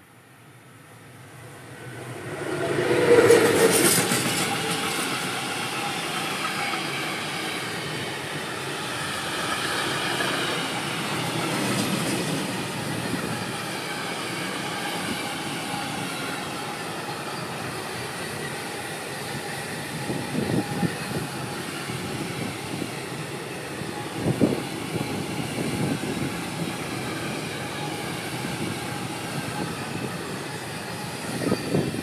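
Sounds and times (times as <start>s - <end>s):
freight train wagons rolling on rails: 1.9s - 32.0s.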